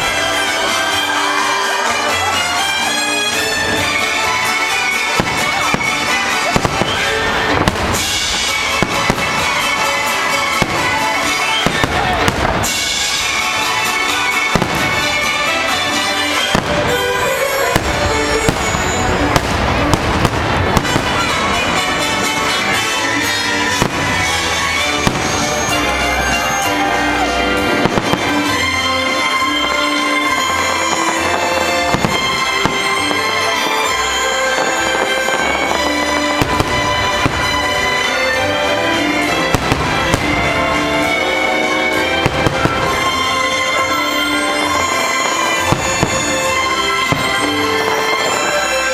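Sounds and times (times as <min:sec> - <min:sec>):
fireworks bursting with sharp bangs: 0:00.0 - 0:48.9
show music: 0:00.0 - 0:48.9.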